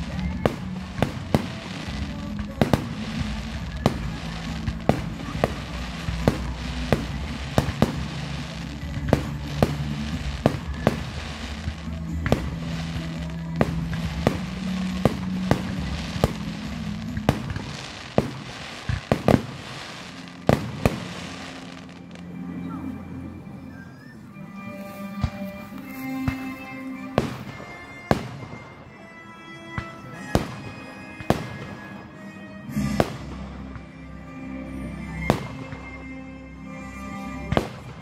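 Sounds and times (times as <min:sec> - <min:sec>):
fireworks bursting: 0:00.0 - 0:22.9, 0:23.7 - 0:38.0
background music: 0:00.0 - 0:38.0.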